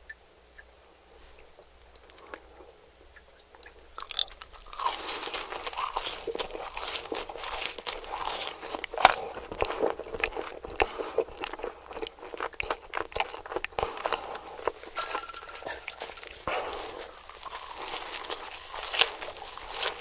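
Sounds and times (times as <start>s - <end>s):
crunchy chewing: 1.2s - 20.0s.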